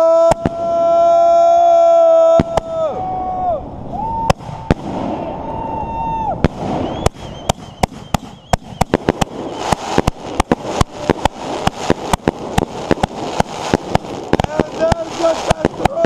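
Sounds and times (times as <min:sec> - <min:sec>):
firework bangs: 0:00.0 - 0:16.0
firework crackling: 0:00.0 - 0:16.0
firework whistling: 0:02.3 - 0:16.0.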